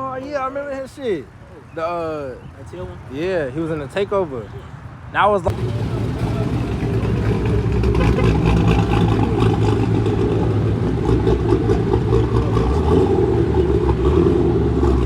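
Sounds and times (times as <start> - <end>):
car engines droning: 0.0 - 15.0.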